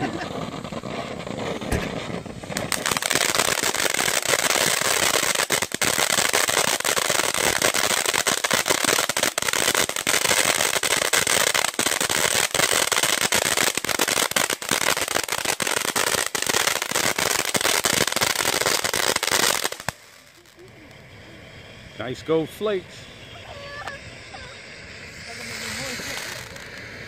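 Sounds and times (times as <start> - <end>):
firework fountain hissing and crackling: 0.0 - 27.0.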